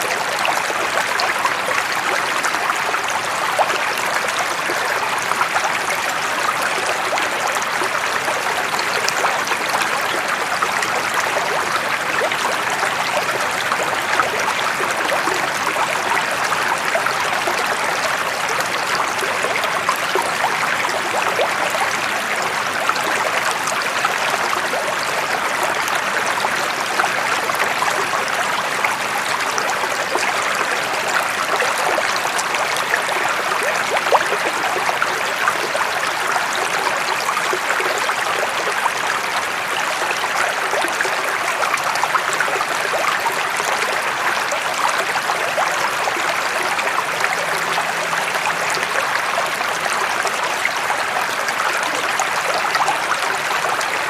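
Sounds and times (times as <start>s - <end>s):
flowing water with splashes: 0.0s - 54.0s.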